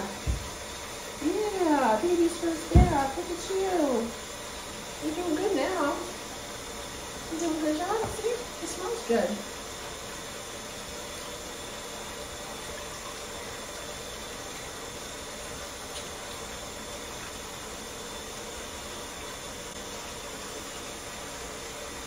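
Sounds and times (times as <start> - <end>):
water pouring into tub: 0.0 - 22.0.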